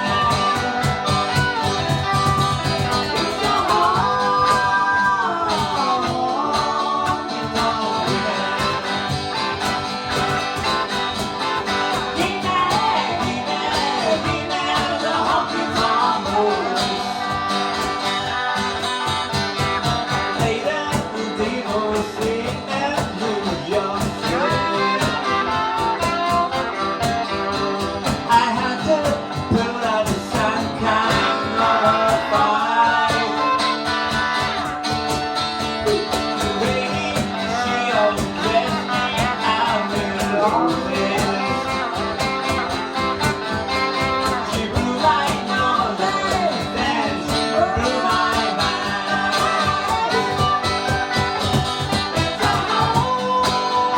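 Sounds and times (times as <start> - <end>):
cajon beat: 0.0 - 53.9
electric and acoustic guitars: 0.0 - 53.9
person singing: 0.0 - 53.9.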